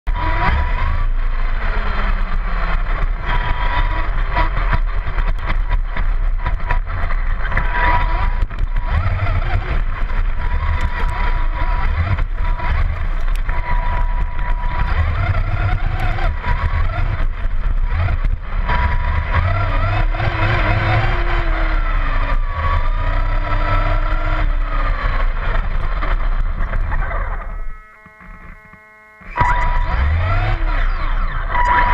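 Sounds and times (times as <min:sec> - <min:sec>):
chassis and tyres rumbling: 0:00.1 - 0:31.9
electric motor and gears whining: 0:00.1 - 0:31.9.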